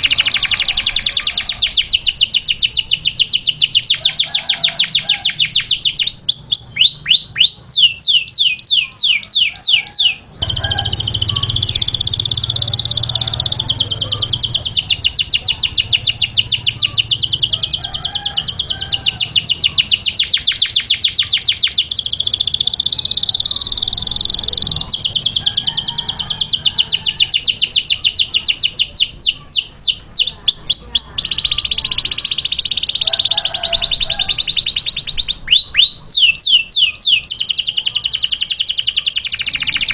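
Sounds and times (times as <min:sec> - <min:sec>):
canary singing with rolling trills: 0:00.0 - 0:39.9.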